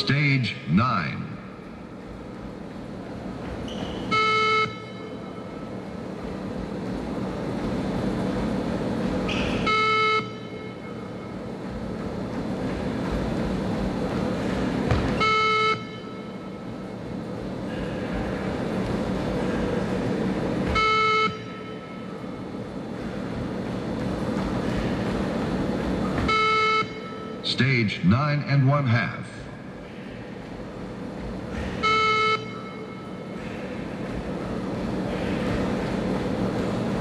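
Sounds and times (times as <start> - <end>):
hall background noise: 0.0 - 37.0.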